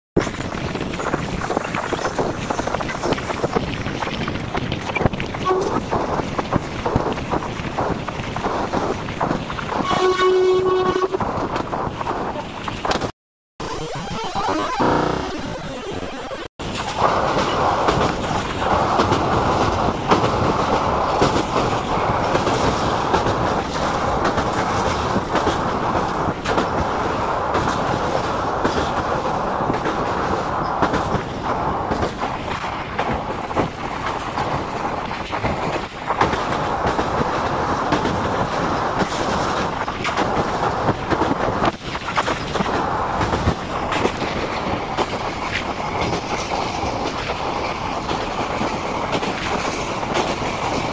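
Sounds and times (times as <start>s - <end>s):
train coaches rumbling and rattling: 0.2s - 13.1s, 16.6s - 50.9s
wheels clickety-clack on rails: 0.2s - 13.1s, 16.6s - 50.9s.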